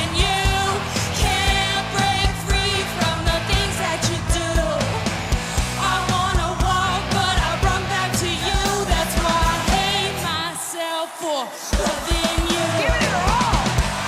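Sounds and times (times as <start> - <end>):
pop-rock band playing: 0.0 - 10.5, 11.6 - 14.0
person singing with vibrato: 0.0 - 13.8.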